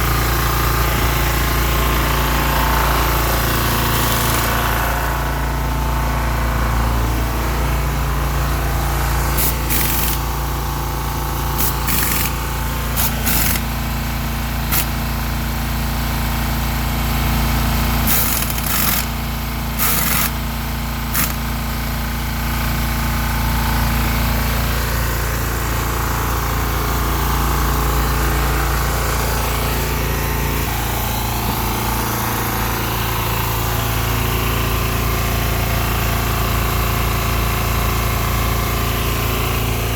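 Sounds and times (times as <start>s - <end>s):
forklift motor hum: 0.0s - 39.9s.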